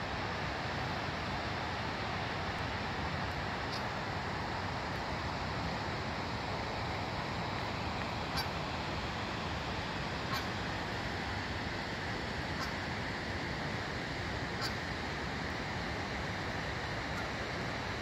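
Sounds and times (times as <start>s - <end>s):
river rushing through rapids: 0.0s - 18.0s.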